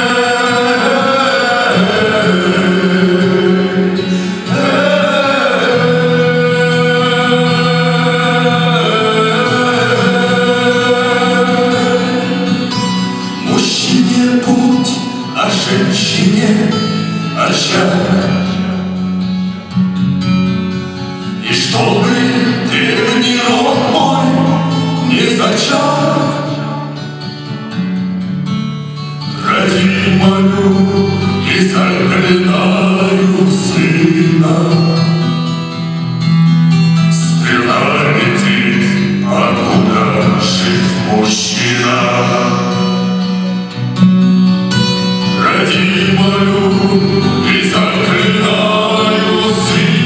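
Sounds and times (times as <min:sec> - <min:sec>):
male vocal group singing: 0:00.0 - 0:18.8, 0:21.4 - 0:26.8, 0:29.4 - 0:35.3, 0:37.1 - 0:43.1, 0:45.3 - 0:50.0.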